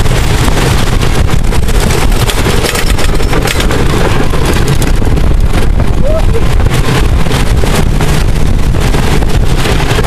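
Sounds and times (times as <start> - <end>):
roller coaster rumble and clatter: 0.0 - 10.0
wind buffeting microphone: 0.0 - 10.0.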